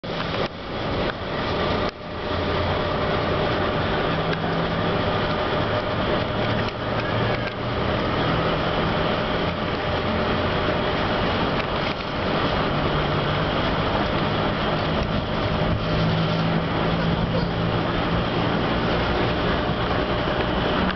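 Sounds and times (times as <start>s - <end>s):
low steady drone: 0.0s - 20.9s
rushing air: 0.0s - 20.9s.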